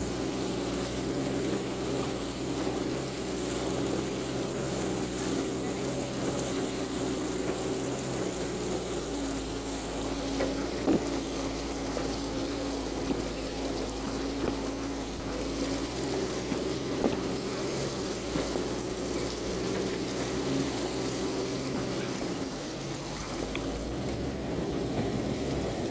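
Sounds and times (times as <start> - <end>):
hiss of churned water: 0.0 - 25.9
vehicle engine running: 0.0 - 25.9.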